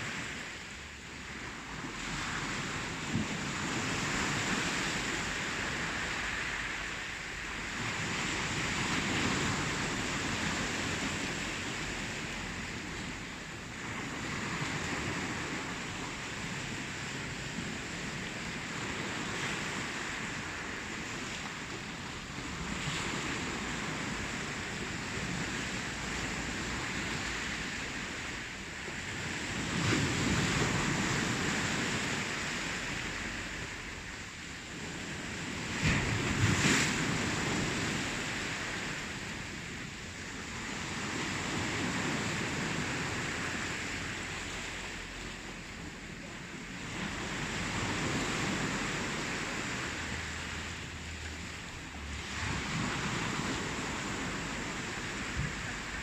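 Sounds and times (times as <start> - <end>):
ocean waves breaking: 0.0 - 56.0
wind rumble on microphone: 0.0 - 56.0.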